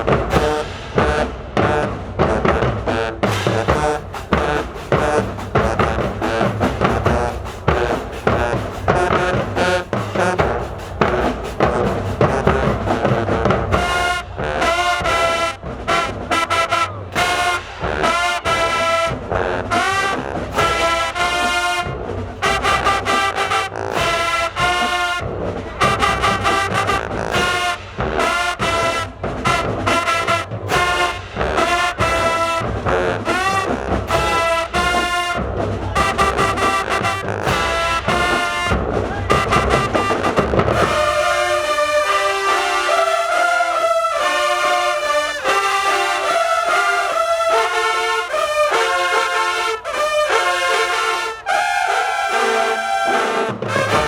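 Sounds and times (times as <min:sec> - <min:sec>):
brass section phrases: 0:00.0 - 0:54.0
marching drumline: 0:00.0 - 0:54.0.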